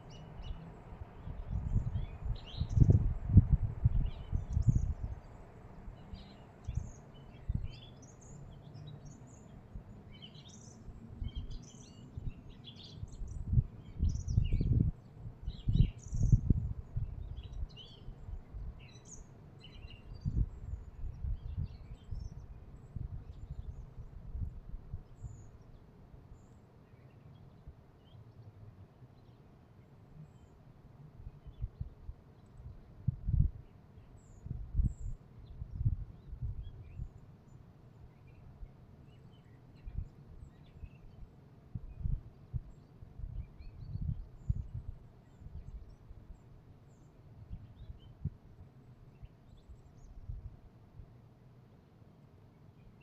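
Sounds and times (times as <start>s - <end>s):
small birds chirping: 0.0s - 28.6s, 31.3s - 50.5s.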